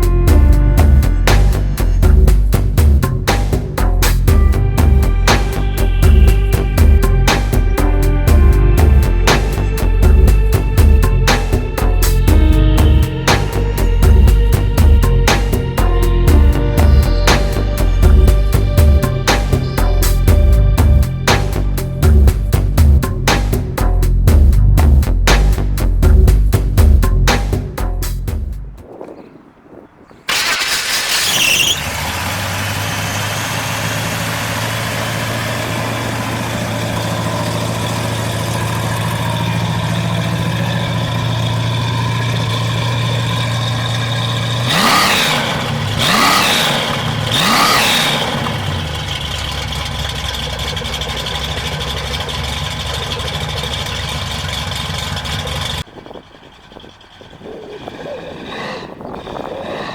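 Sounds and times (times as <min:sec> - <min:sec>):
car engine starting and revving: 0:00.0 - 0:28.2, 0:30.2 - 0:59.3.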